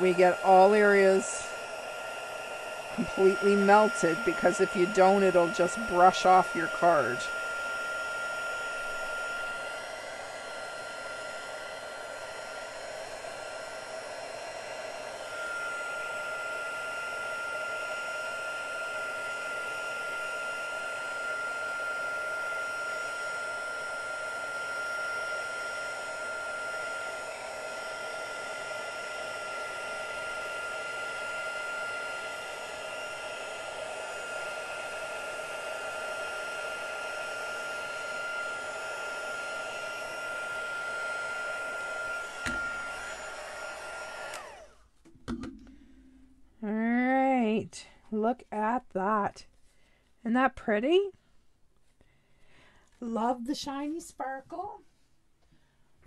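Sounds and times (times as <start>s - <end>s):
heat tool blowing with fan whine: 0.0s - 46.7s.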